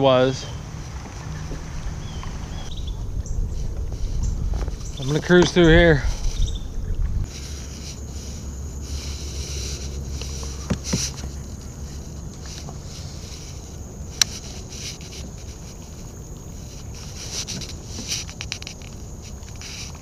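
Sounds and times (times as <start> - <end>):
hiss of water and wind: 0.0 - 20.0
low rumble: 0.4 - 18.0.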